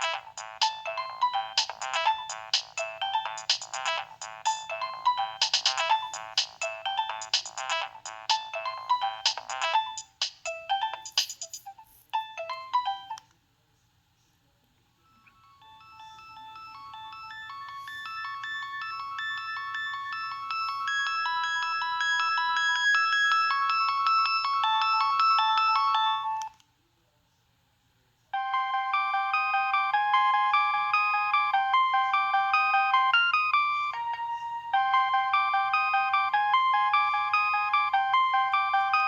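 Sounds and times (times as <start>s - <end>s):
polyphonic phone ringtones: 0.0s - 11.4s, 15.1s - 26.5s, 28.4s - 39.0s.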